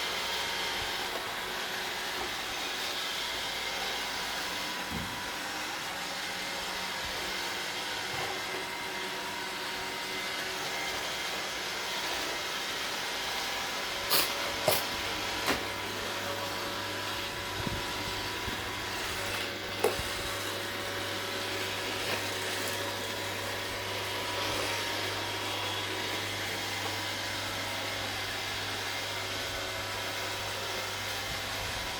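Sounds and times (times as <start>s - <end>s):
robot vacuum whirring: 0.0s - 31.9s.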